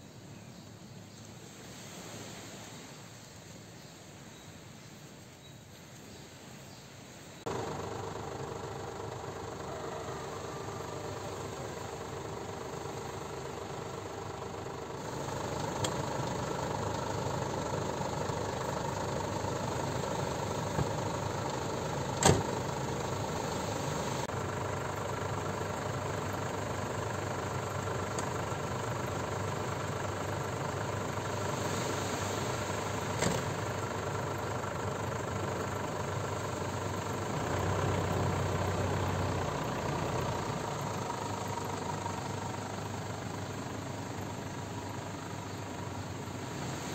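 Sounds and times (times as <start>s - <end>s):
car engine starting and idling: 7.4s - 46.9s.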